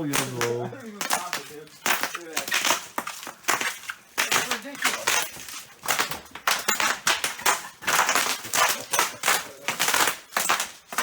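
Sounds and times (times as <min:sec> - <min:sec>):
footsteps crunching on debris: 0:00.0 - 0:11.0.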